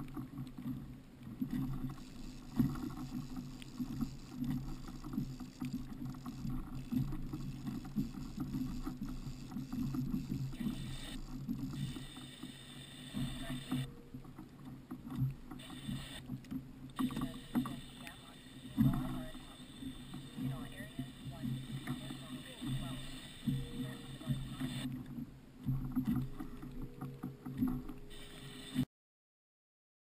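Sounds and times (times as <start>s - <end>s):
water lapping against kayak hull: 0.0s - 28.6s.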